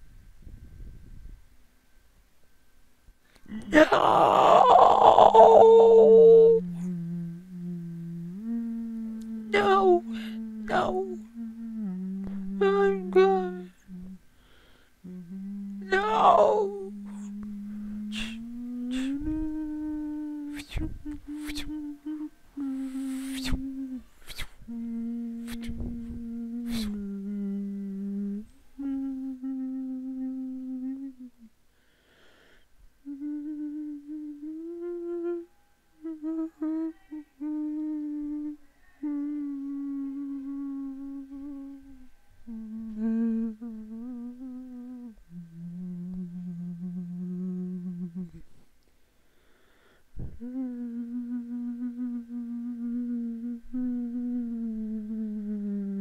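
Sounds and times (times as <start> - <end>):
man humming slow melody: 3.4 - 31.6, 33.0 - 48.6, 50.2 - 56.0.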